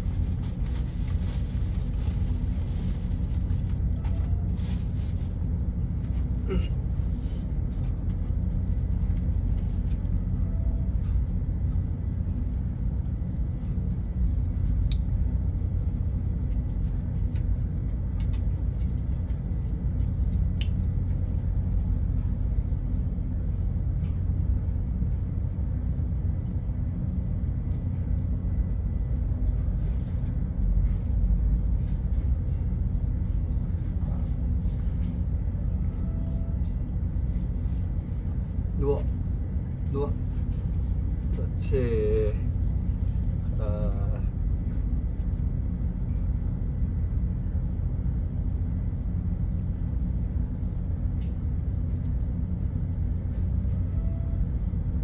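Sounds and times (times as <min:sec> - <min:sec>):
faint steady hum: 0:00.0 - 0:55.0
ship machinery rumbling: 0:00.0 - 0:55.0.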